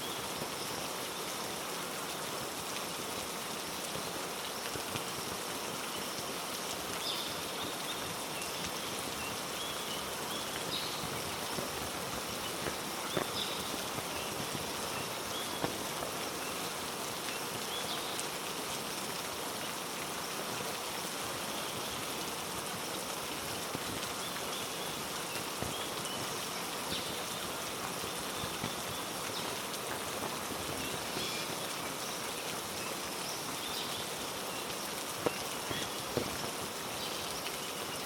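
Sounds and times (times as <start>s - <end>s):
heavy rain on foliage: 0.0s - 38.0s
drops dripping nearby: 0.2s - 19.3s, 20.0s - 37.8s.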